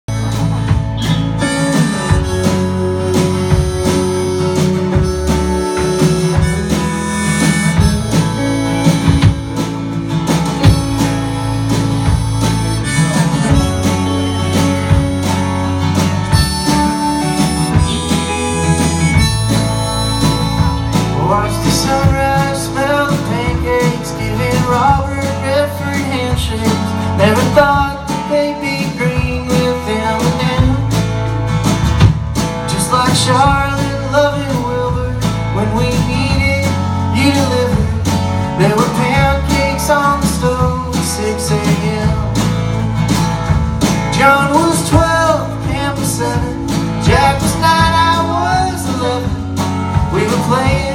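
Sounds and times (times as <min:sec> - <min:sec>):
guitar lead line bending notes: 0:00.0 - 0:50.9
live band playing: 0:00.0 - 0:50.9.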